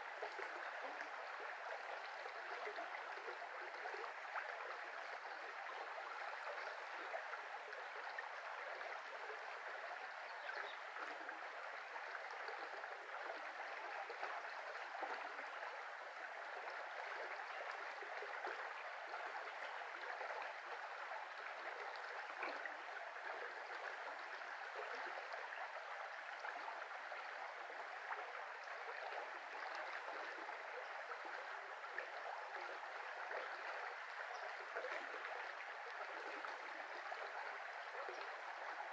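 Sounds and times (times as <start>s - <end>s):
brook flowing: 0.0s - 38.9s.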